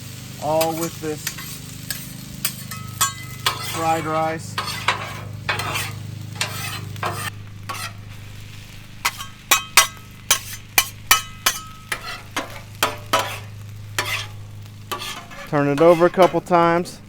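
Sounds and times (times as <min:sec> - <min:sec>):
food sizzling: 0:00.0 - 0:17.0
steady low hum: 0:00.0 - 0:17.0
metal spatulas clanking on griddle: 0:00.4 - 0:17.0.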